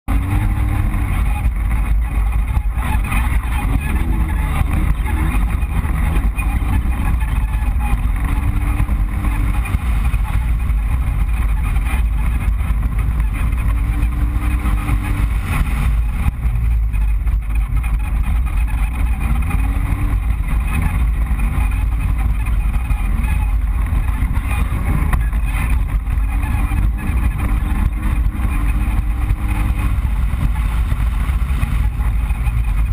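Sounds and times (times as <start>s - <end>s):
vehicle engine rumbling: 0.0s - 32.9s.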